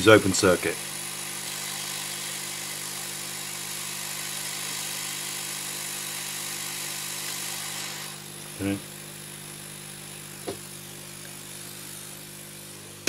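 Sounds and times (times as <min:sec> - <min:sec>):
hot air gun hissing: 0:00.0 - 0:13.0.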